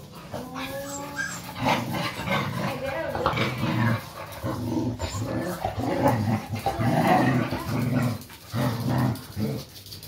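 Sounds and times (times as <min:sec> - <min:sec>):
dogs growling: 0:00.0 - 0:10.0.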